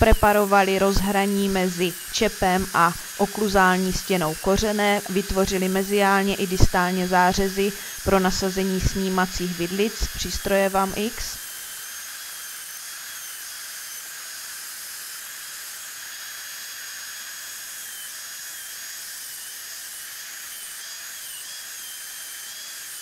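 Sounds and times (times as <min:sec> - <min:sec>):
dental drill whining: 0:00.0 - 0:23.0.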